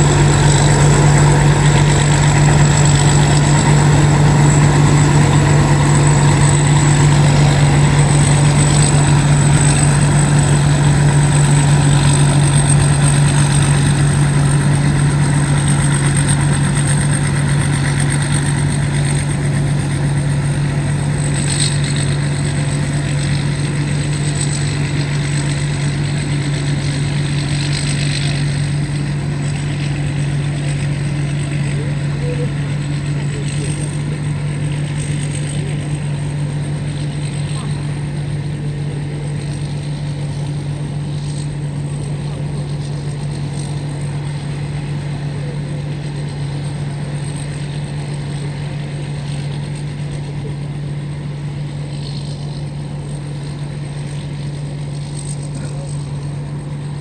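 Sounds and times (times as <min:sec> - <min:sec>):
harvester engine humming: 0:00.0 - 0:57.0
high-pitched whine: 0:00.0 - 0:57.0.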